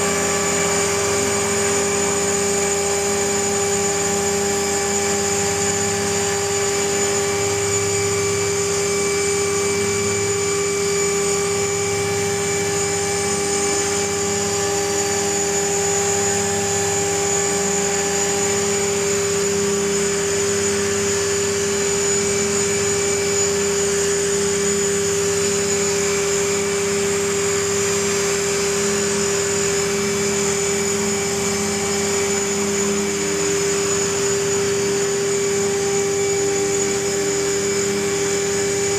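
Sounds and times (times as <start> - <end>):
rc helicopter hovering: 0.0 - 38.9.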